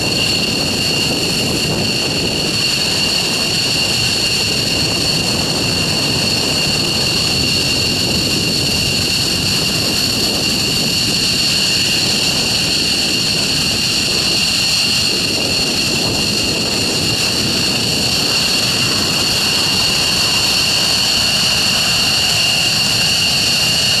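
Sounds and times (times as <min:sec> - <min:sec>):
high turbine whine: 0:00.0 - 0:24.0
jet engines roaring: 0:00.0 - 0:24.0.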